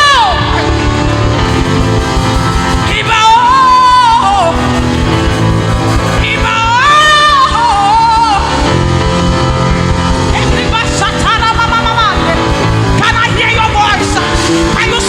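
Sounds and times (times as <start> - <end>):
band playing gospel music: 0.0 - 15.0
person singing wordless runs: 0.0 - 15.0.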